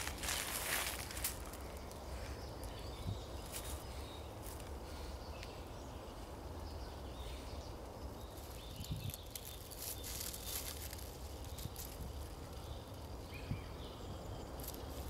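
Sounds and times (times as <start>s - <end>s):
faint rustling in leaves: 0.0s - 15.0s.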